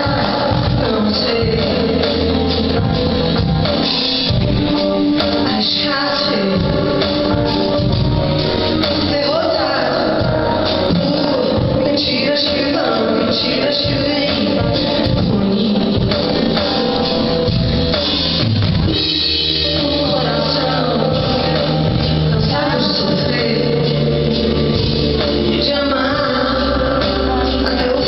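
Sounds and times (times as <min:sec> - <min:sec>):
woman singing: 0:00.0 - 0:17.4, 0:18.9 - 0:28.0
live pop-rock band: 0:00.0 - 0:28.0.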